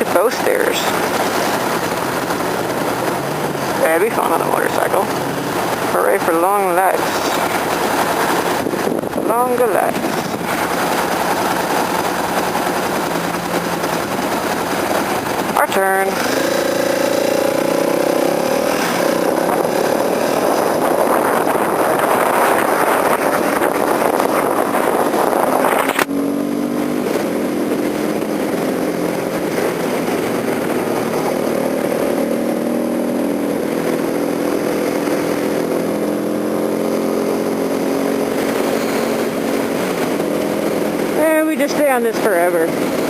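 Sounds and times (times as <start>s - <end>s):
motorcycle engine accelerating: 0.0s - 43.0s
wind noise: 0.0s - 43.0s.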